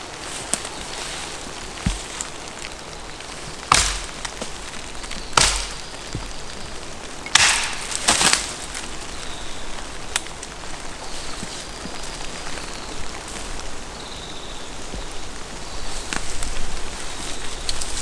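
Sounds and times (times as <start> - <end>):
dry wood cracking: 0.0 - 18.0.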